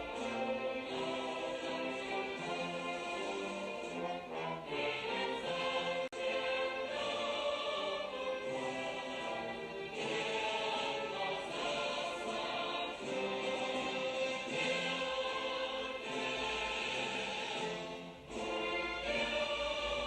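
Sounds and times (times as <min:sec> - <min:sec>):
choir-like singing with music: 0:00.0 - 0:20.0.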